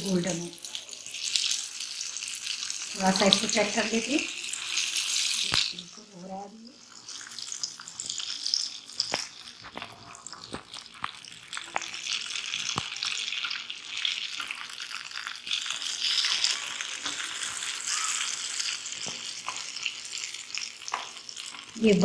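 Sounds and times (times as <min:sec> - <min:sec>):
bread frying in hot oil: 0:00.0 - 0:22.0
sharp crackles and pops: 0:00.3 - 0:05.8, 0:07.0 - 0:22.0.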